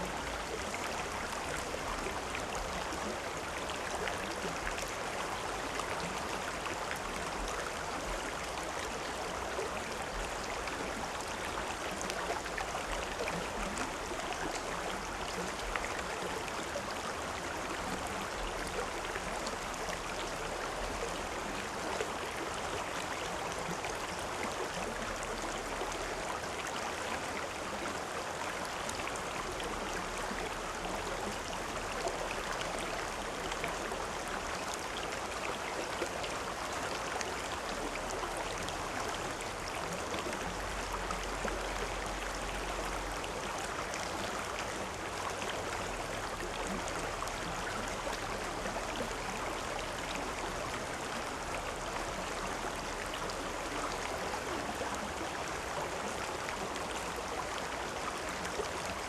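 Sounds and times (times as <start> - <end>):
water flowing over rocks: 0.0 - 59.0.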